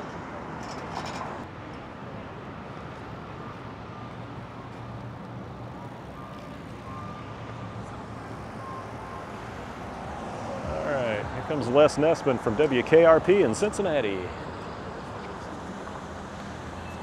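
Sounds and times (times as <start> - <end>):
city street traffic: 0.0 - 17.0
vehicle engine humming: 1.3 - 17.0.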